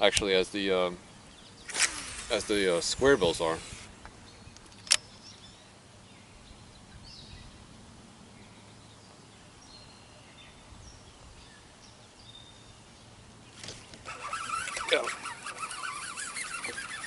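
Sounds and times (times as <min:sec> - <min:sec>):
songbird chirps: 0:00.4 - 0:02.3, 0:03.4 - 0:17.0.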